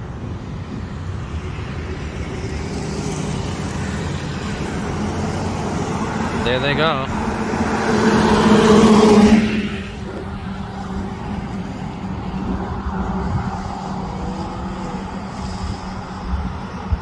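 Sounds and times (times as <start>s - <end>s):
car driving away: 1.2s - 17.0s.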